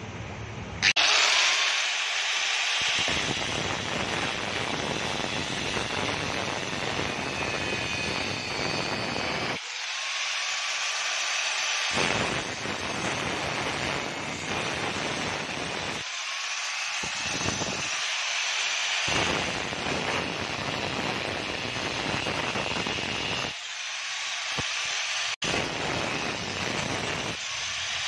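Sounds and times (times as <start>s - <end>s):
angle grinder cutting metal: 0.8s - 28.0s.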